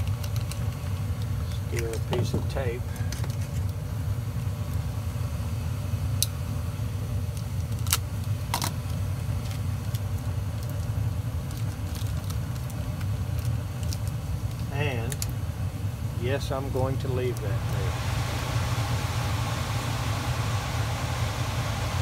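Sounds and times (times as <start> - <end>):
gas furnace low rumble: 0.0 - 22.0.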